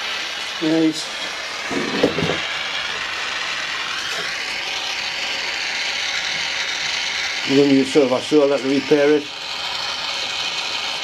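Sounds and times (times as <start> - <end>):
gas torch hissing: 0.0 - 11.0.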